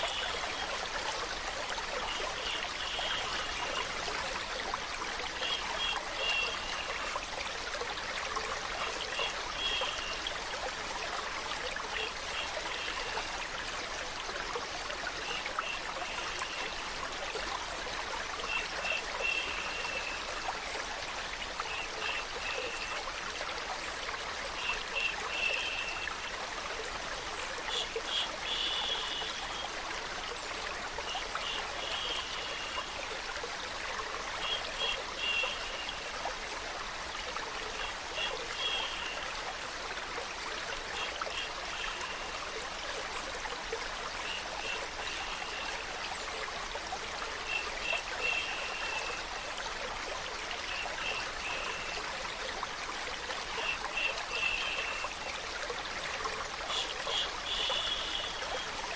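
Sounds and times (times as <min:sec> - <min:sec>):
water trickling: 0:00.0 - 0:58.9.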